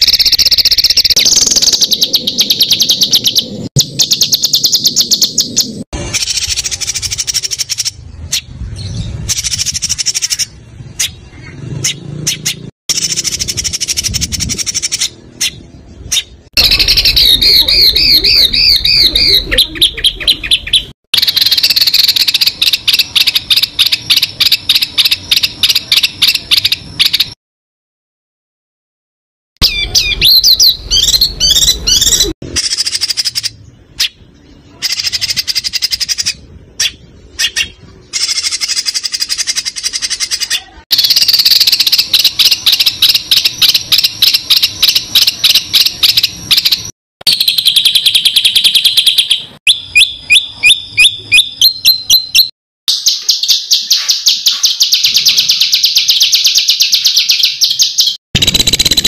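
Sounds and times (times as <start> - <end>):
rattling bird trills: 0.0 - 27.4, 29.6 - 59.0
repeated rising bird chirps: 0.0 - 27.4, 29.6 - 59.0
songbirds whistling phrases: 0.0 - 27.4, 29.6 - 59.0.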